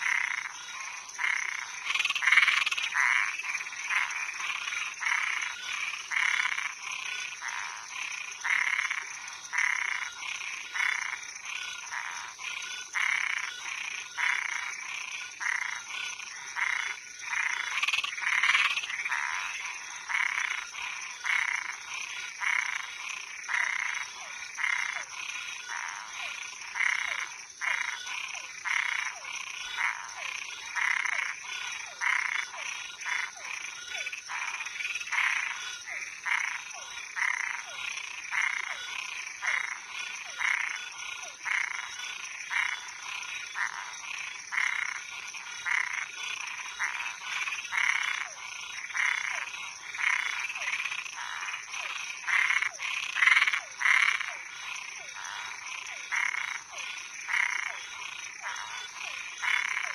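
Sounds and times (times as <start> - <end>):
frogs croaking: 0.0 - 59.9.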